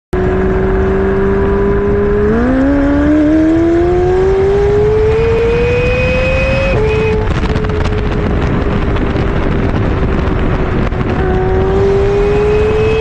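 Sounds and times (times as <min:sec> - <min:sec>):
sports car exhaust accelerating: 0:00.2 - 0:13.0.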